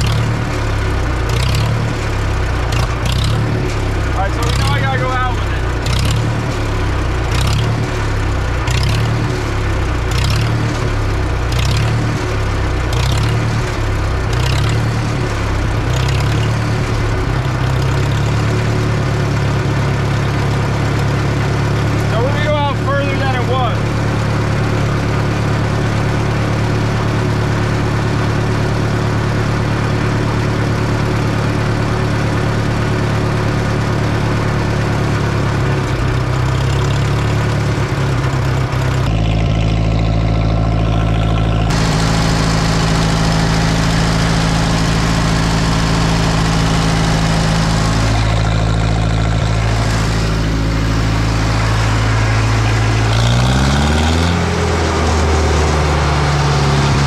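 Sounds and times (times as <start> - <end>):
bulldozer engine running: 0.0 - 57.0.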